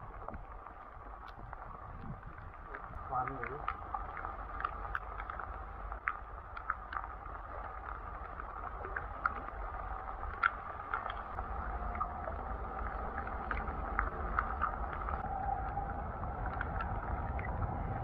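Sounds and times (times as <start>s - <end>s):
creek water running: 0.0s - 18.0s
low water rumble: 0.0s - 18.0s
small water splashes and drips: 0.0s - 18.0s.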